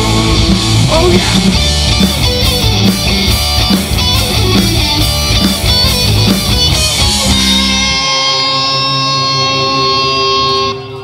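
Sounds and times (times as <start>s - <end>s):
rock band playing: 0.0s - 11.0s
ringing guitar chord: 1.8s - 11.0s.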